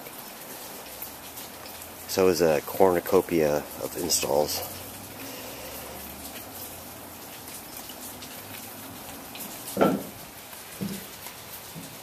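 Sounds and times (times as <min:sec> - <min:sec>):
rain falling and dripping: 0:00.0 - 0:12.0.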